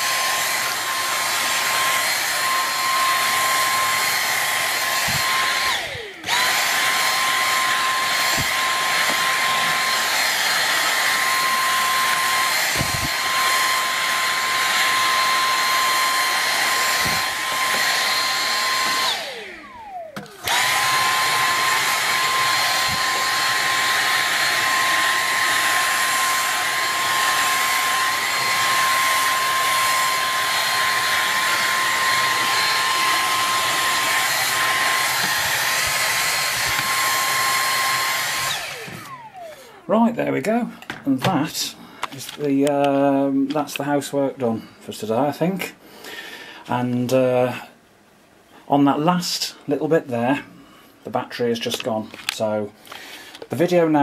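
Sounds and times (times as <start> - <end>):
vacuum cleaner whining: 0.0 - 44.3.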